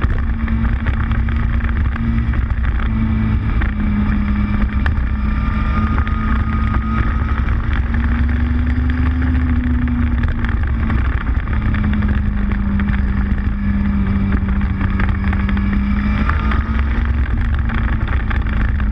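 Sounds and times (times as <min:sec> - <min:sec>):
motorcycle engine running: 0:00.0 - 0:18.9
wind buffeting microphone: 0:00.0 - 0:18.9.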